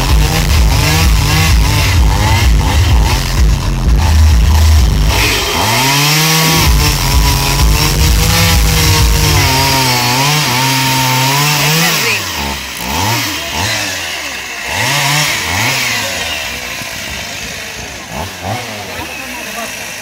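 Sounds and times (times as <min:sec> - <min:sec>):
chainsaw cutting into log: 0:00.0 - 0:20.0.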